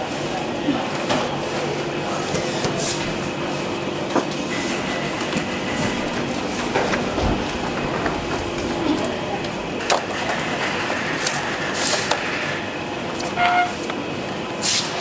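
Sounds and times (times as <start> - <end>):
conveyor belt running: 0.0 - 15.0.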